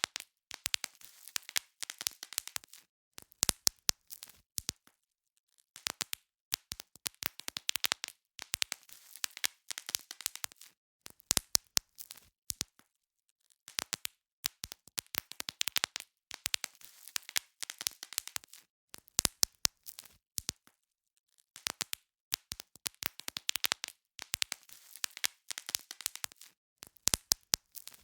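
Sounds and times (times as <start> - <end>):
bubble wrap popping: 0.0 - 4.8, 5.8 - 12.8, 13.7 - 20.7, 21.6 - 28.0.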